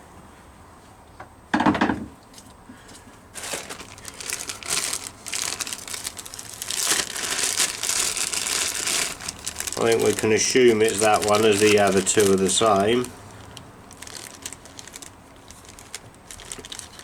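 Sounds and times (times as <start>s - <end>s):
plastic packaging crinkling: 3.4s - 17.0s.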